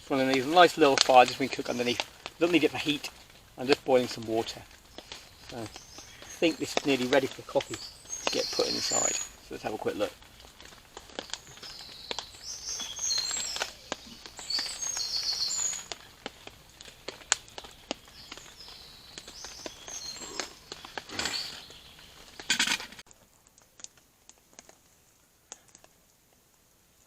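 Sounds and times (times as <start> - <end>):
small birds chirping: 0.0 - 23.0
rustling bursts: 0.0 - 23.4.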